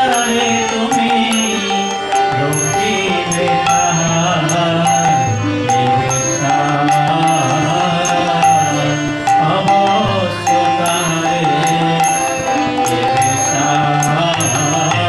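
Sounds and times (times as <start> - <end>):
harmonium: 0.0 - 15.0
man singing a chant: 0.0 - 15.0.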